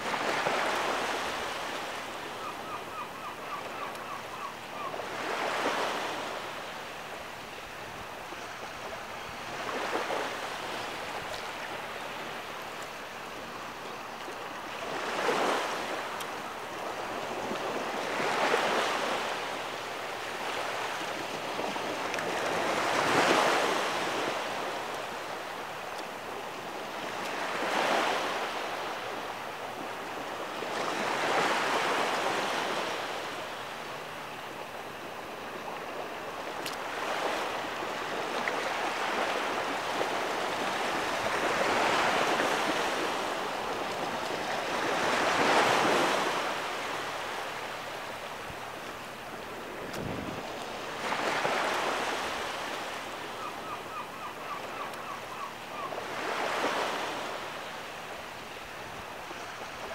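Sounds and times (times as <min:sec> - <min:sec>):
ocean waves on beach: 0:00.0 - 0:59.9.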